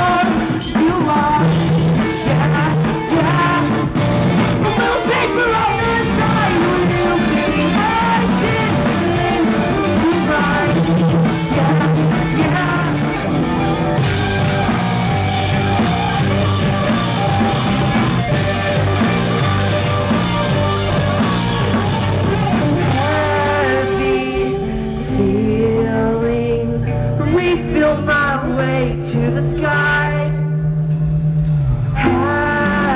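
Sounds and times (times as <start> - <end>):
person singing: 0.0 - 13.4, 14.2 - 30.8, 31.9 - 32.9
bass: 0.0 - 32.9
distorted electric guitars: 0.0 - 32.9
drums: 0.0 - 32.9.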